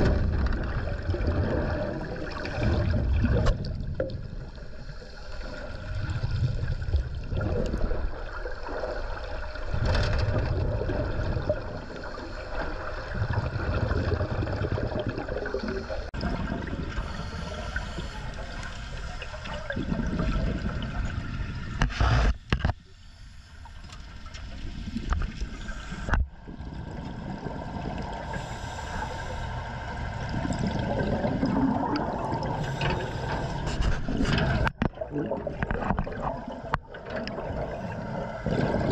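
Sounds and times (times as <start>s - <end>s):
water gurgling and sloshing: 0.0s - 38.9s.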